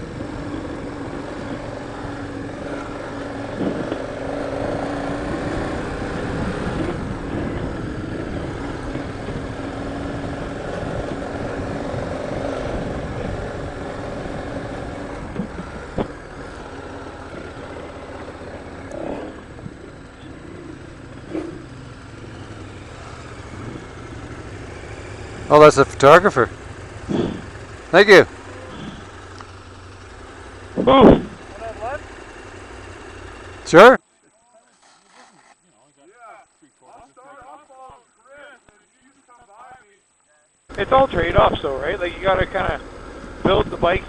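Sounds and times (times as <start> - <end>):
motorcycle engine running: 0.0 - 34.0, 40.7 - 44.0
road and wind noise: 0.0 - 34.1, 40.5 - 44.0.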